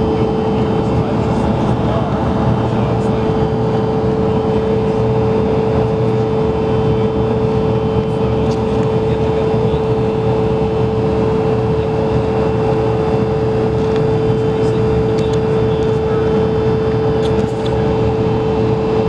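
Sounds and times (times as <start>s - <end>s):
constant hum: 0.0s - 19.0s
rush of air in airliner cabin: 0.0s - 19.0s.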